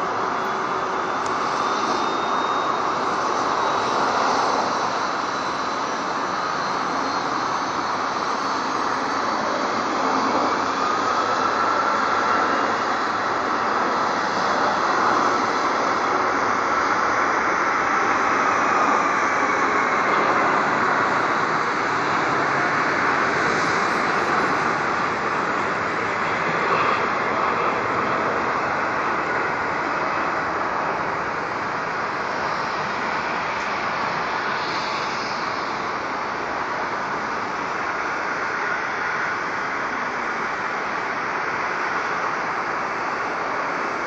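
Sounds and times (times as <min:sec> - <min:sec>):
jet engines at takeoff: 0:00.0 - 0:44.0.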